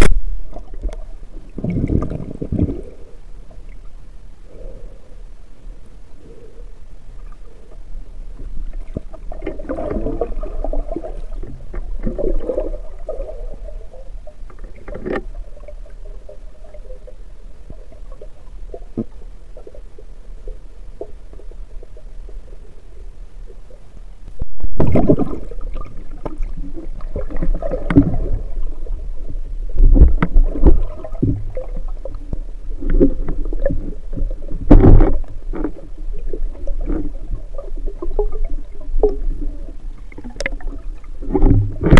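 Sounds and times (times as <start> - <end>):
muffled underwater rumbling: 0.0 - 41.9.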